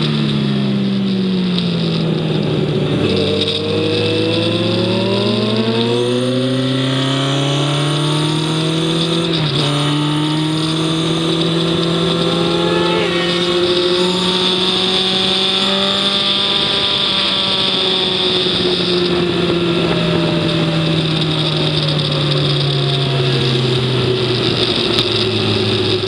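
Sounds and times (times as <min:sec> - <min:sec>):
wind and road noise: 0:00.0 - 0:26.0
vehicle engine revving: 0:01.5 - 0:26.0.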